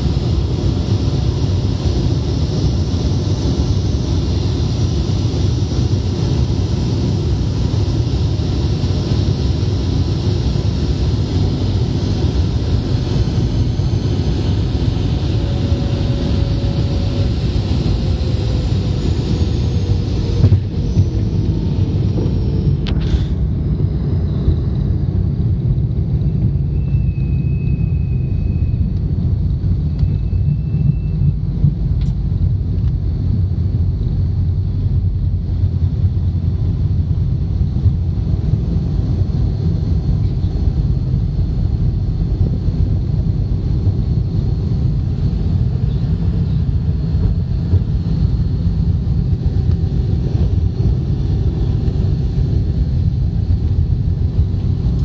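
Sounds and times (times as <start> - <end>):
faint high engine whine: 0.0 - 55.0
jet engines rumbling: 0.0 - 55.0.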